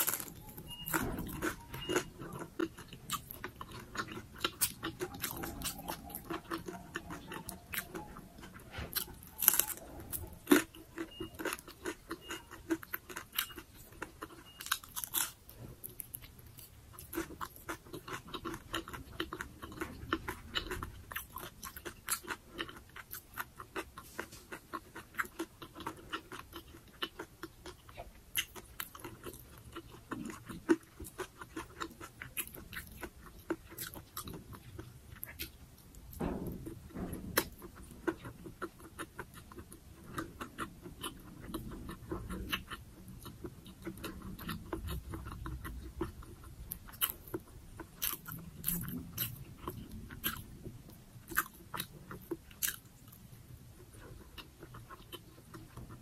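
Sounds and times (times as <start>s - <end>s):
chewing and crunching: 0.0s - 56.0s.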